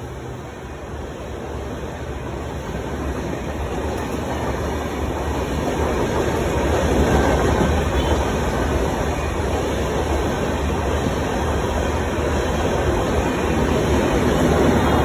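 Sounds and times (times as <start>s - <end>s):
second train passing: 0.0s - 15.0s
train rumbling past: 0.0s - 15.0s
wheel and rail clatter: 1.5s - 15.0s.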